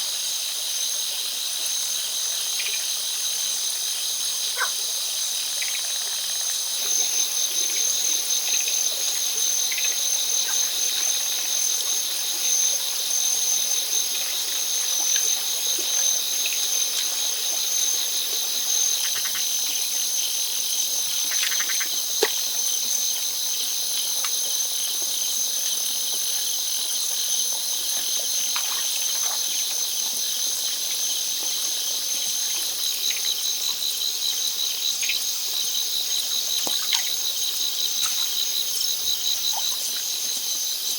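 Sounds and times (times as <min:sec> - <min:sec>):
insects trilling: 0:01.6 - 0:40.9.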